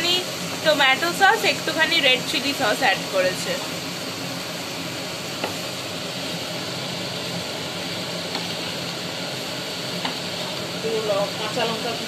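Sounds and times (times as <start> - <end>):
range hood fan running: 0.0 - 12.0.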